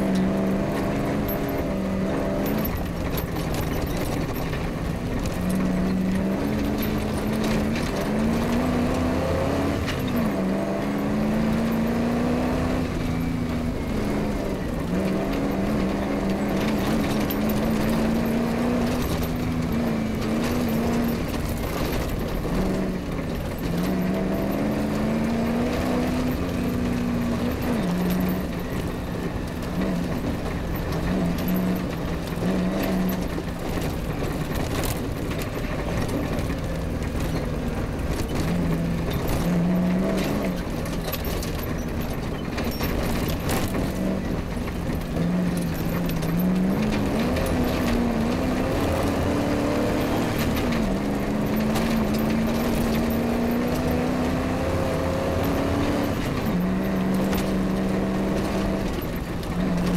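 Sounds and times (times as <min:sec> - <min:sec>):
car rattling over bumps: 0:00.0 - 0:59.9
rally car engine revving: 0:00.0 - 0:59.9.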